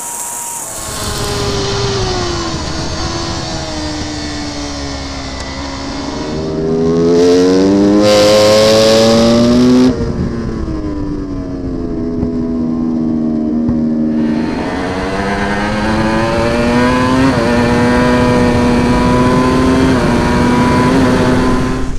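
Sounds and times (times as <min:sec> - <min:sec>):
motorcycle engine revving: 0:00.0 - 0:21.9
wind rush: 0:00.0 - 0:21.9.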